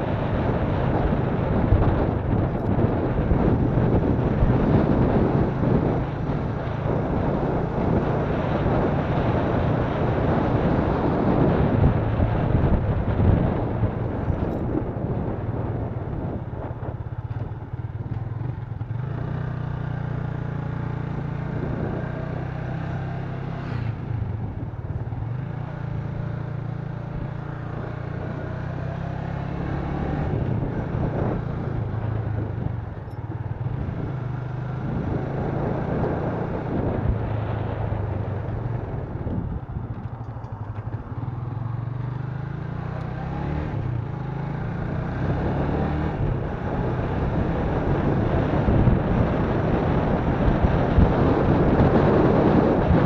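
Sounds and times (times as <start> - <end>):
motorcycle engine running: 0.0 - 53.0
wind rush on microphone: 0.0 - 53.0.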